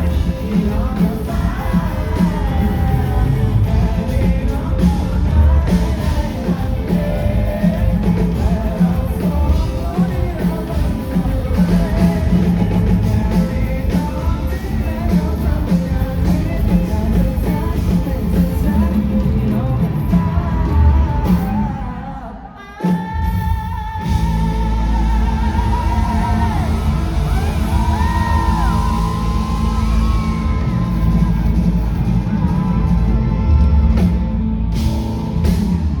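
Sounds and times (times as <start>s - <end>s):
live rock band playing: 0.0s - 22.2s, 22.8s - 36.0s
person singing and yelling: 0.0s - 34.0s.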